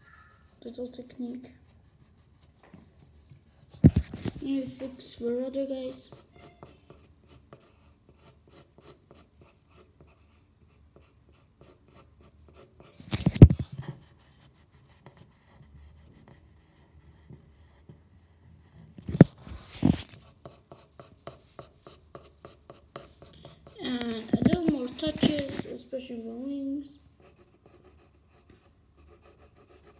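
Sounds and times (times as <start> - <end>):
pencil scratching on paper: 0.0 - 29.9.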